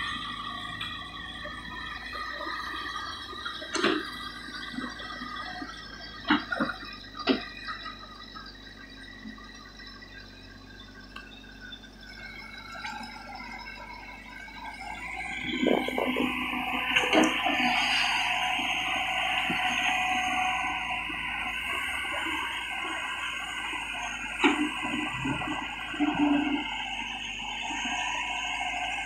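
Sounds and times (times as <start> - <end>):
excavator engine humming with whine: 0.0 - 29.0.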